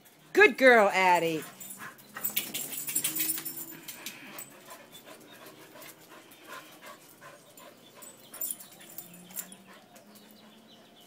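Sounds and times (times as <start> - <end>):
dog panting: 1.4 - 11.0.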